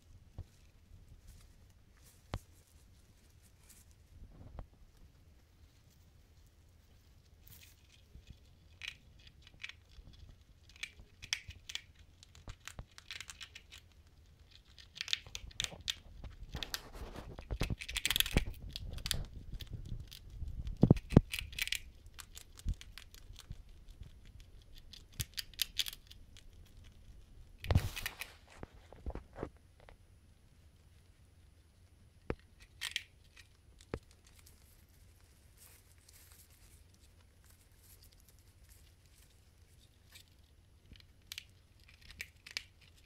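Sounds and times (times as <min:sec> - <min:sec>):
degus gnawing and crunching: 0:00.0 - 0:43.0.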